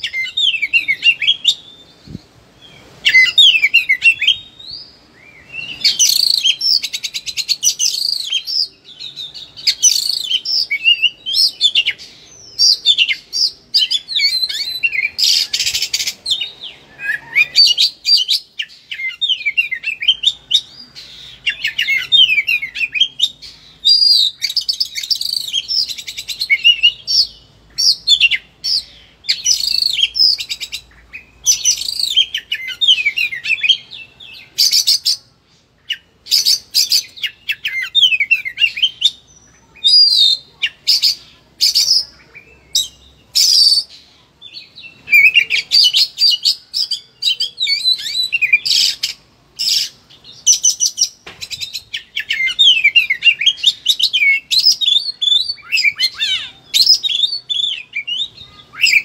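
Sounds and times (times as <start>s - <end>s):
bird singing varied whistles and trills: 0.0s - 59.0s.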